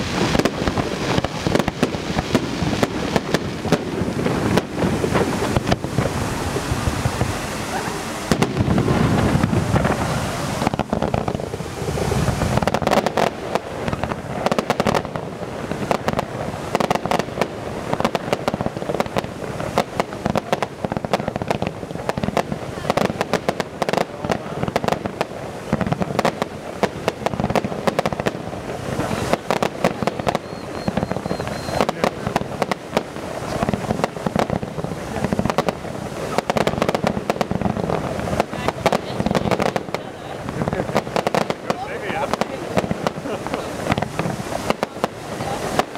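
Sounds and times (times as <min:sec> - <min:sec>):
fireworks bangs and pops: 0:00.0 - 0:45.9.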